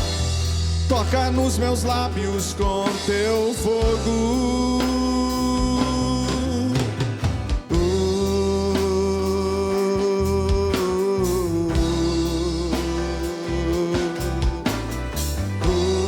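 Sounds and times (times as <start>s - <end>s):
bass and drums: 0.0s - 16.0s.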